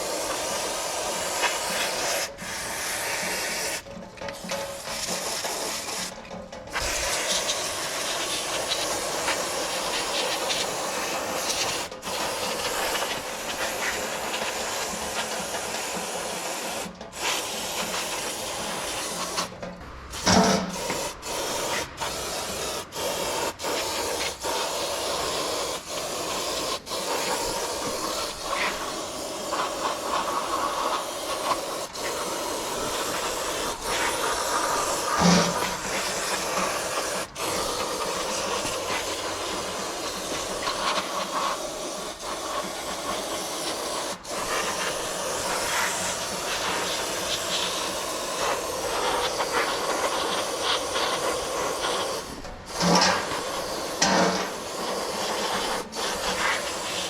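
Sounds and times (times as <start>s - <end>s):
aerosol spray hissing: 0.0s - 57.0s.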